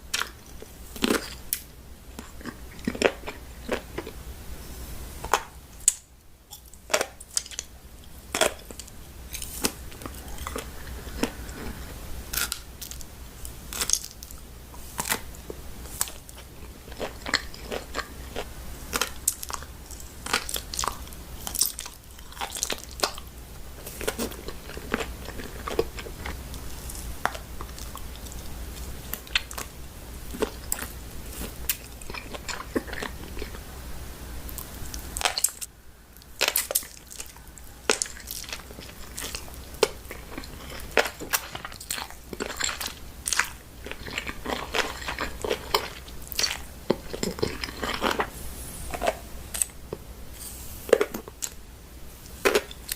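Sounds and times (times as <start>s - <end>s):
crunching and chewing food: 0.0s - 52.9s
low steady hum: 0.0s - 52.9s.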